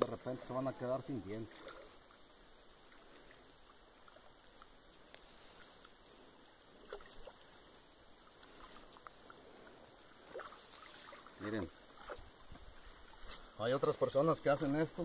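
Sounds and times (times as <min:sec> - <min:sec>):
water sloshing and dripping: 0:00.0 - 0:13.6
soft water splashes: 0:00.0 - 0:15.0.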